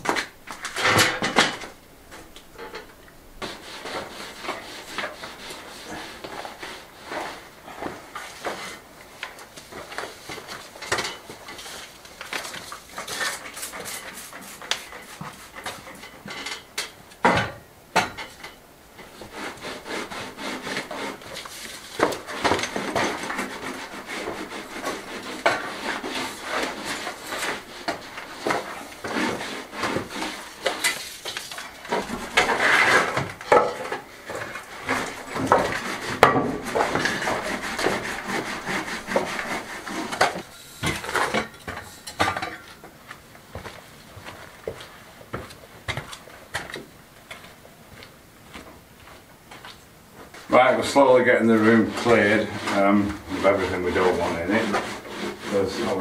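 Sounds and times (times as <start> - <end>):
rubbing and scraping on wood: 0.0 - 17.0, 18.4 - 42.4, 48.5 - 56.0.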